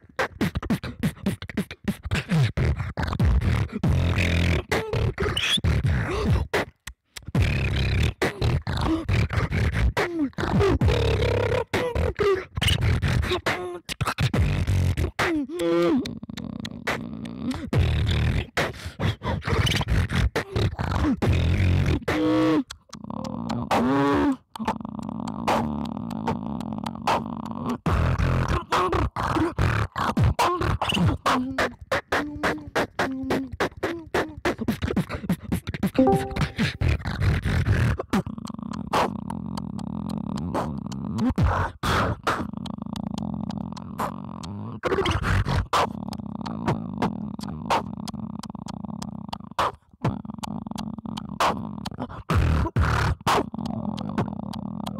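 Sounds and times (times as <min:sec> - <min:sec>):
beatboxing: 0:00.0 - 0:54.9.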